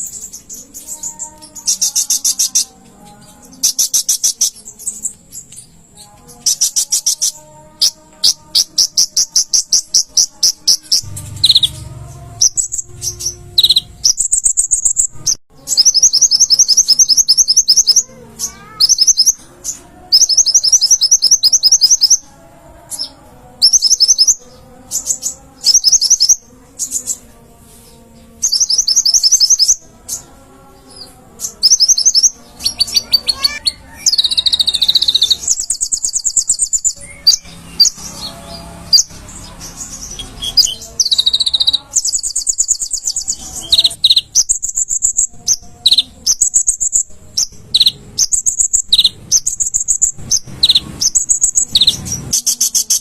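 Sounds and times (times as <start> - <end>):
sunbird high-pitched trills: 0.0 - 22.3, 22.9 - 27.3, 28.4 - 30.2, 30.9 - 53.0.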